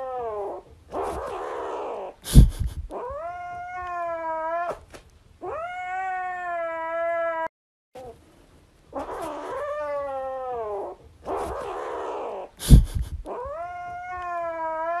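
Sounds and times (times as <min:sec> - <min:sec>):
kitten yowling meows: 0:00.0 - 0:02.1, 0:02.9 - 0:08.2, 0:09.0 - 0:12.5, 0:13.2 - 0:15.0.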